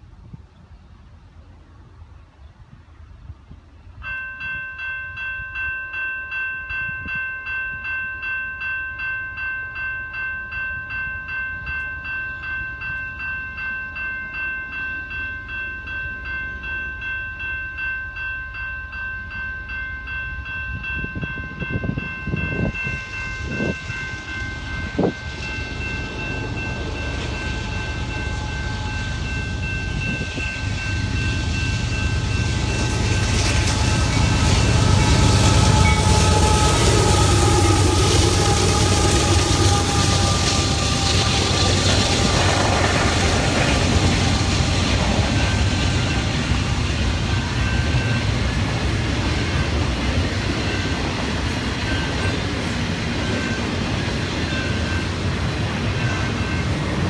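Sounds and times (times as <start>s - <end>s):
freight train rumbling: 0.0s - 57.0s
railway crossing bell ringing: 4.0s - 57.0s.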